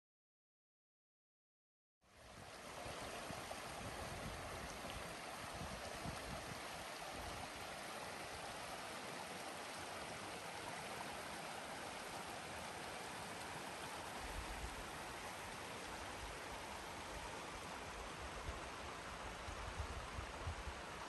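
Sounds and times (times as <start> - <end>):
flowing water rushing: 2.1 - 21.0.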